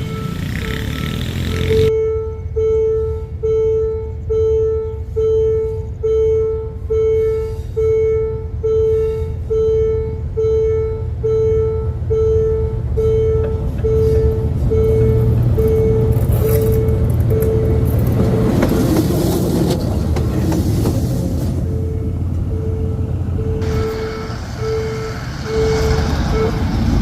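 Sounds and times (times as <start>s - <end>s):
level crossing alarm beeping: 0.0s - 18.8s, 21.6s - 26.8s.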